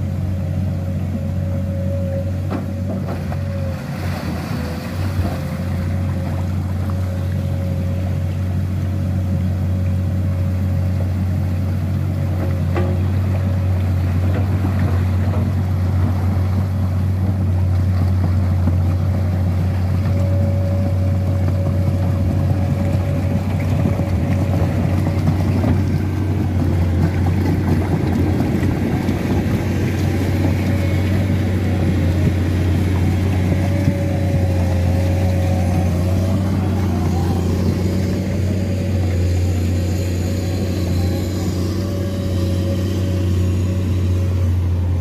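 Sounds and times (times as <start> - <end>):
excavator diesel engine drone: 0.0 - 45.0.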